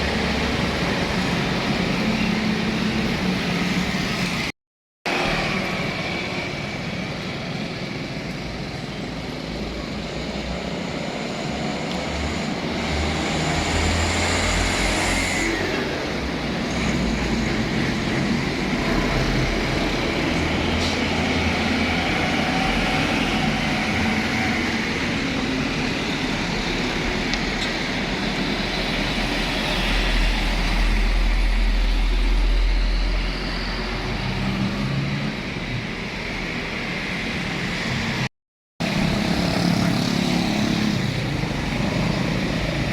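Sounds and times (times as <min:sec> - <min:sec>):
steady traffic noise: 0:00.0 - 0:42.9
heavy trucks passing: 0:05.1 - 0:42.9.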